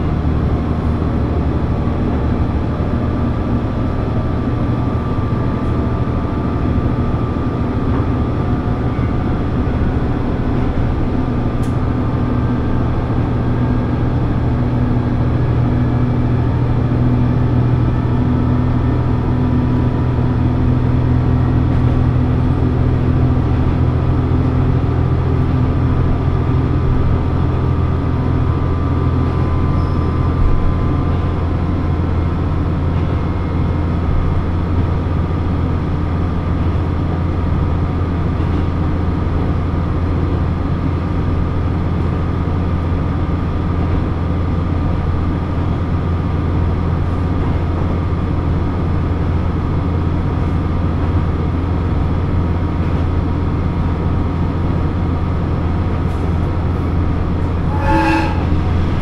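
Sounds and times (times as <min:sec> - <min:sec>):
diesel engine drone: 0:00.0 - 0:59.0
low rail rumble: 0:00.0 - 0:59.0.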